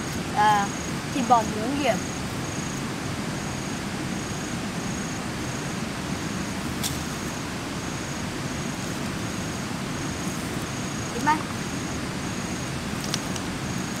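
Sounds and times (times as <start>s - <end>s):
insect chirping in pulses: 0.0s - 14.0s
outdoor background noise: 0.0s - 14.0s.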